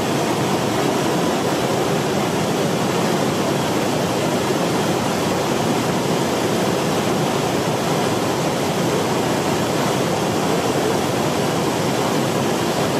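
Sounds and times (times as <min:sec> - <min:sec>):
waterfall rushing over rocks: 0:00.0 - 0:12.9.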